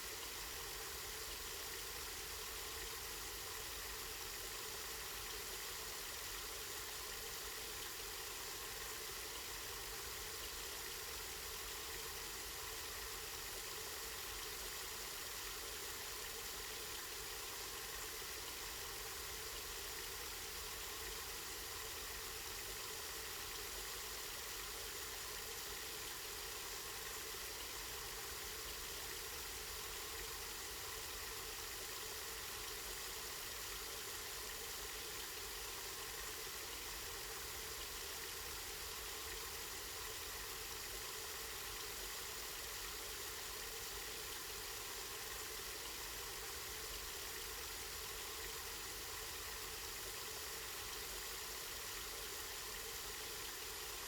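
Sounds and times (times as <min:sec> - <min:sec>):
spring water flowing and splashing: 0:00.0 - 0:54.0.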